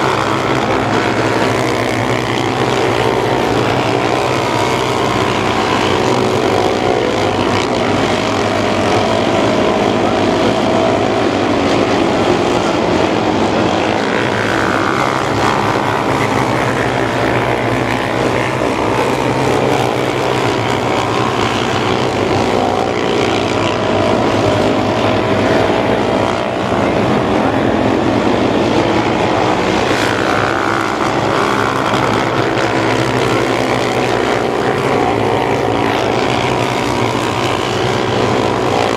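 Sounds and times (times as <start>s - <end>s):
race car engines at full throttle: 0.0s - 38.9s.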